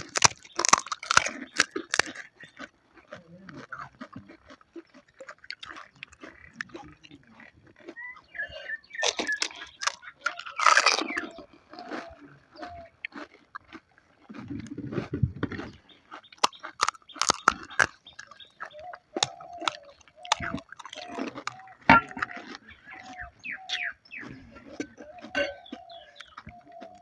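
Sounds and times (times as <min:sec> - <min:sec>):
crunching and chewing: 0:00.0 - 0:27.0.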